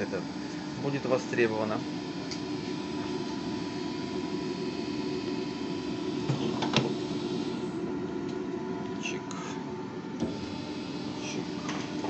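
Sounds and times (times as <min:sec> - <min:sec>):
machine humming and whining: 0:00.0 - 0:12.0.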